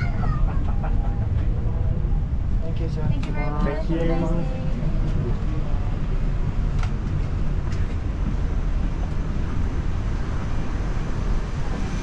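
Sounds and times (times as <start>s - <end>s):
aircraft cabin low rumble: 0.0s - 12.0s.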